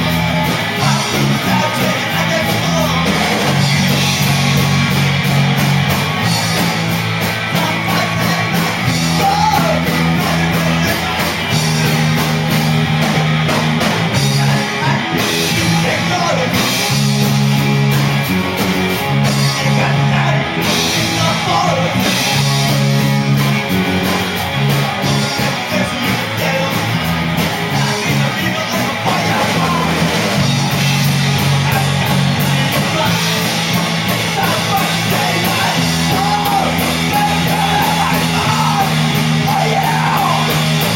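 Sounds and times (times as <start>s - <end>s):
person singing: 0.0s - 5.1s, 6.2s - 12.6s, 13.4s - 17.7s, 19.1s - 40.9s
guitar: 0.0s - 40.9s
rock band playing live: 0.0s - 40.9s.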